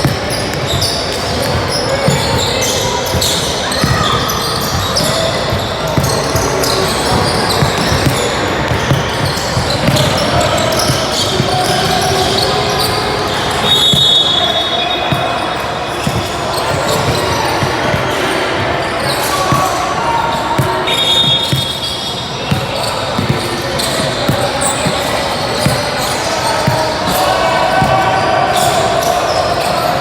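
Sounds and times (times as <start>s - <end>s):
basketball bouncing on court: 0.0s - 29.9s
spectators chatter: 0.0s - 30.0s.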